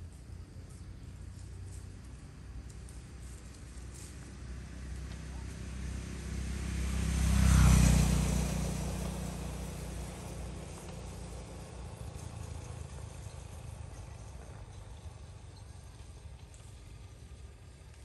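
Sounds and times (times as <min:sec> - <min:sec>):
vehicle engine passing by: 0:00.4 - 0:18.0.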